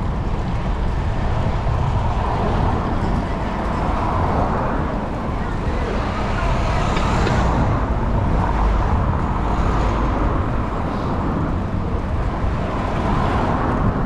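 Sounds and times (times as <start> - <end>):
road noise: 0.0 - 14.0
wind rumble on microphone: 0.0 - 14.0.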